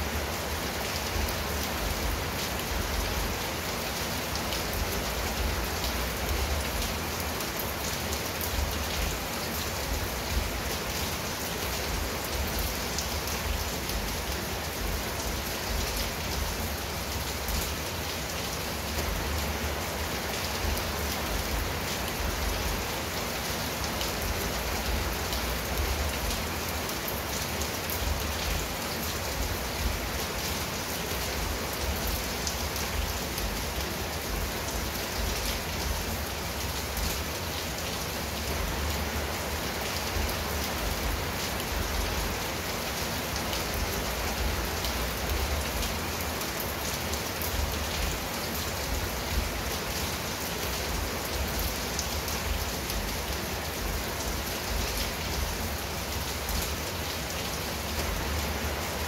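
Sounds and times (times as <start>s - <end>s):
rain on a tiled roof: 0.0s - 59.0s.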